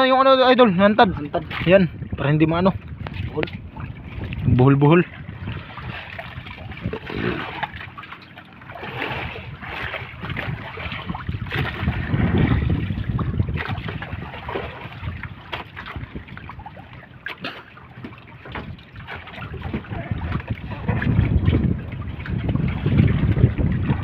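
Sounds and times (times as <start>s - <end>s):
water sloshing against boat hull: 0.0s - 24.0s
wind buffeting microphone: 0.0s - 24.0s.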